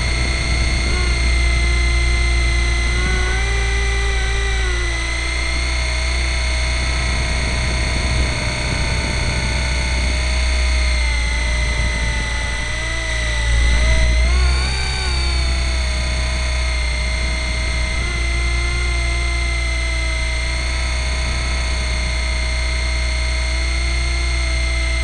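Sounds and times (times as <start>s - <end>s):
low rumble: 0.0s - 25.0s
rc helicopter motor whine: 0.0s - 25.0s.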